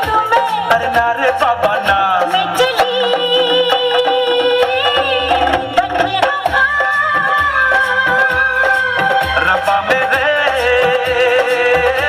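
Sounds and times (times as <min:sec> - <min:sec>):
steady percussive beat: 0:00.0 - 0:12.0.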